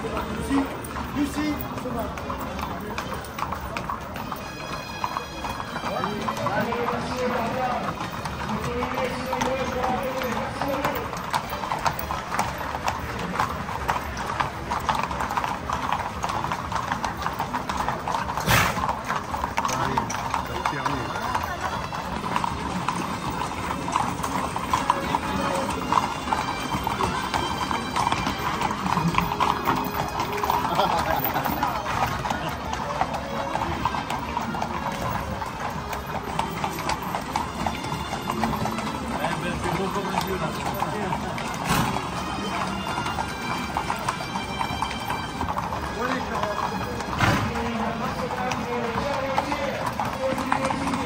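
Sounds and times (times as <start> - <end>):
horse hooves on pavement: 0.0 - 51.0.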